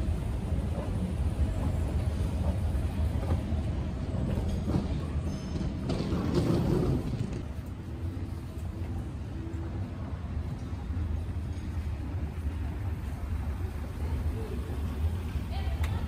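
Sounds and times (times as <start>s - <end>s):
low rumble of station hall: 0.0s - 16.0s.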